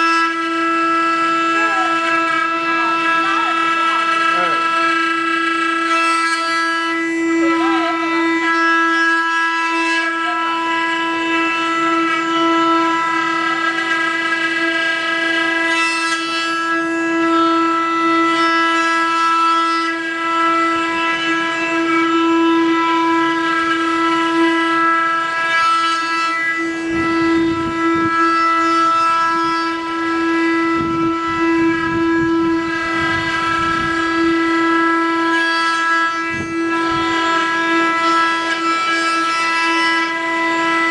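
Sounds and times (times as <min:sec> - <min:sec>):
router spindles whining: 0:00.0 - 0:40.9.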